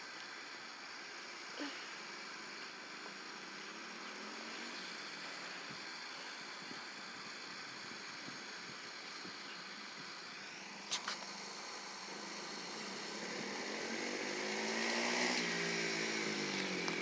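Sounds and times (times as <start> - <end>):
dirt bike engine: 0.0 - 17.0.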